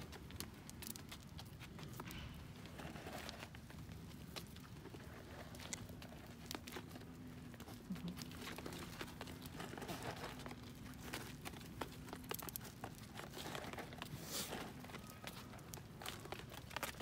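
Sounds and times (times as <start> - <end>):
deer nibbling food: 0.0 - 17.0
hooves tapping on stone: 0.0 - 17.0.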